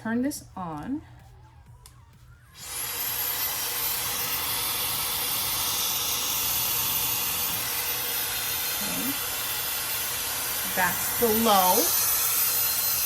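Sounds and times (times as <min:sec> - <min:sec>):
hair dryer whining and blowing: 0:02.5 - 0:13.0.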